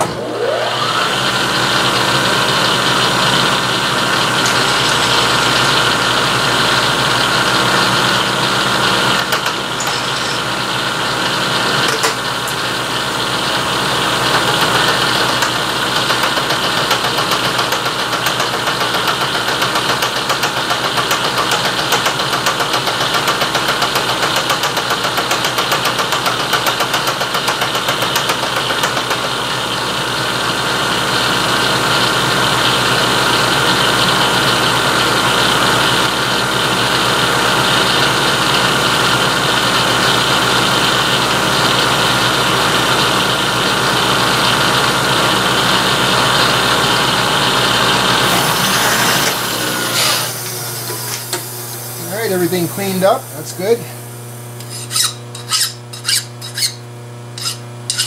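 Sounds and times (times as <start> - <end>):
milling machine cutting metal: 0.0 - 36.0, 37.0 - 58.0.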